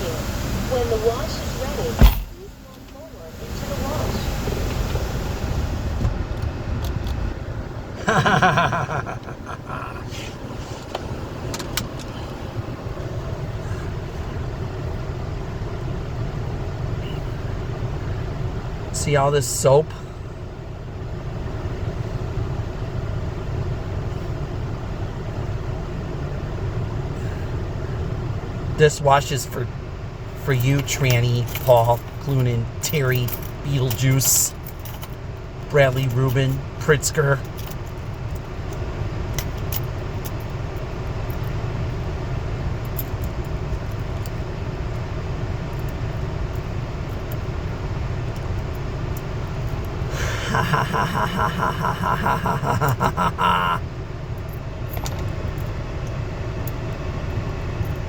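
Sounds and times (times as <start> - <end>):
muffled car wash rumble: 0.0 - 58.0.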